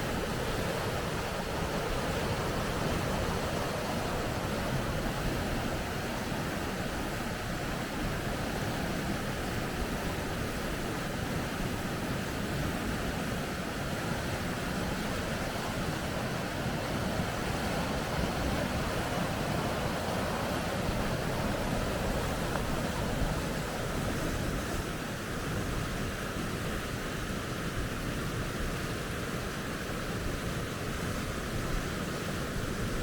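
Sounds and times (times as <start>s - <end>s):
river rapids rushing: 0.0s - 27.7s.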